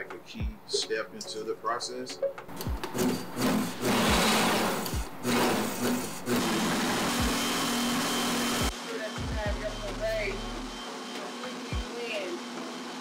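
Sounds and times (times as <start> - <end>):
blender running: 2.5 - 13.0.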